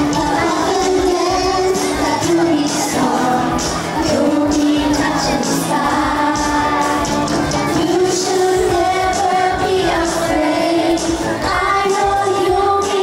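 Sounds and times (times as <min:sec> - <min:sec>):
instrumental backing: 0:00.0 - 0:13.0
person singing: 0:00.0 - 0:13.0.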